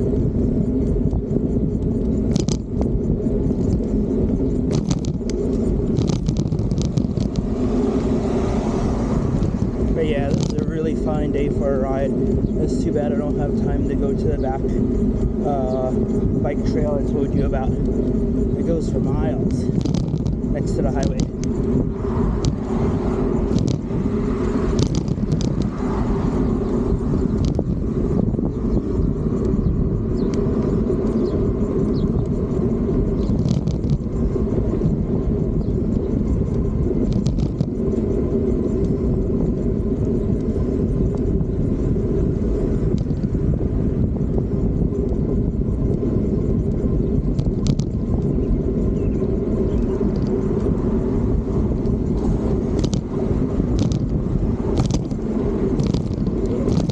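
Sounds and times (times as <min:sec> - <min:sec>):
electric bike rumble: 0:00.0 - 0:56.9.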